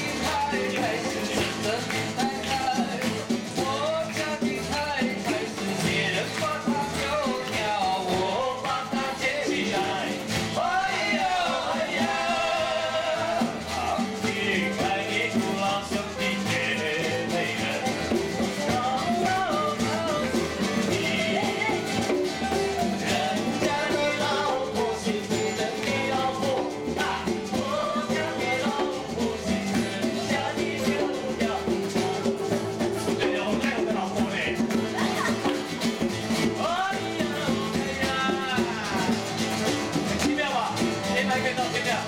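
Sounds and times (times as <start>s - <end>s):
live band playing: 0.0s - 42.0s
people singing into microphones: 0.0s - 42.0s
strummed acoustic guitar: 0.0s - 42.0s.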